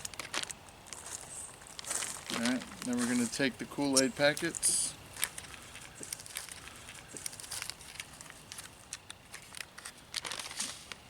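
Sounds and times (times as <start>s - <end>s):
packets crinkling and tearing: 0.0s - 11.0s
sharp crackles: 0.0s - 11.0s.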